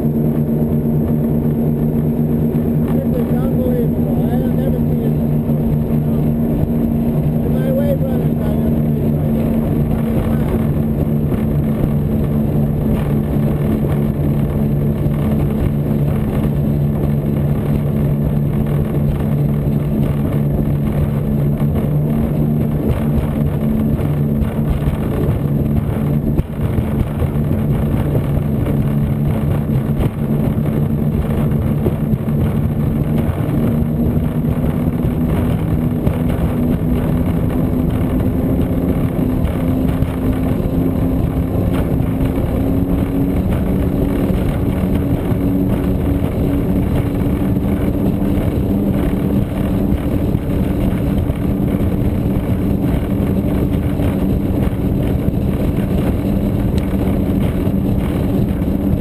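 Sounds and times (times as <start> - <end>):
powerboat engines droning: 0.0 - 59.0.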